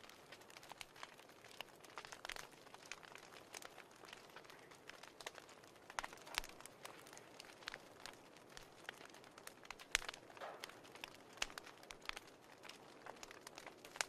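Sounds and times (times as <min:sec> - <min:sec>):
fireplace crackling: 0:00.0 - 0:14.0.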